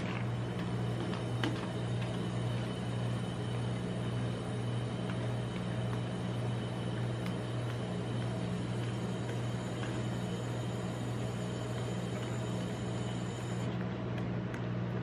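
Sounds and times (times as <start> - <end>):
refrigeration unit hum: 0.0 - 15.0.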